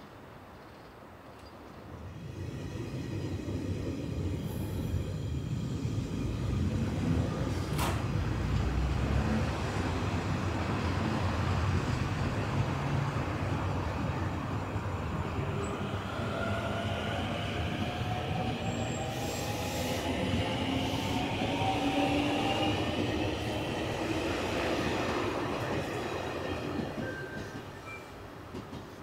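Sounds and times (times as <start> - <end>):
electric train rumble: 1.8 - 29.0.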